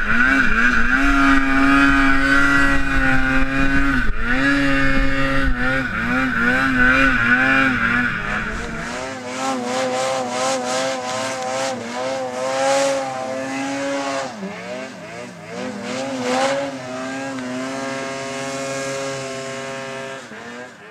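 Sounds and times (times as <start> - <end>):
snowmobile engine revving: 0.0 - 20.9.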